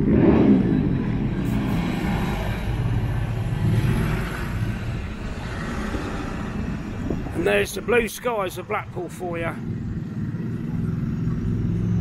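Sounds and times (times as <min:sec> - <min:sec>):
cars and truck driving by: 0:00.0 - 0:12.0.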